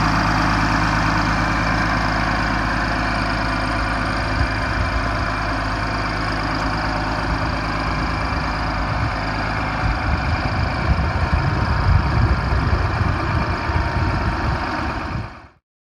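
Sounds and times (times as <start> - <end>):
tractor diesel engine idling: 0.0 - 15.6.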